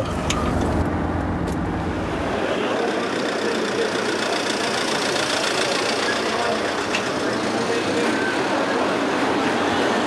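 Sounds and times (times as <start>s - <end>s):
car engine and road rumble: 0.0s - 10.0s
street traffic: 0.0s - 10.0s.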